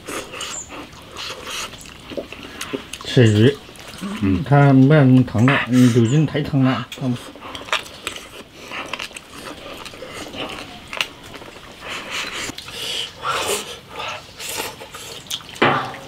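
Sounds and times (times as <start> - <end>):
man chewing and slurping: 0.0 - 4.5, 5.2 - 16.0.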